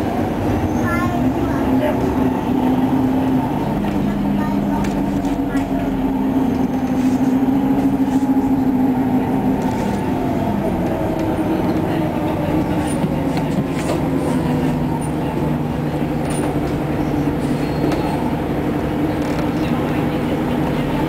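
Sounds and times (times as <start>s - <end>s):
bus engine hum: 0.0s - 21.0s
road noise: 0.0s - 21.0s.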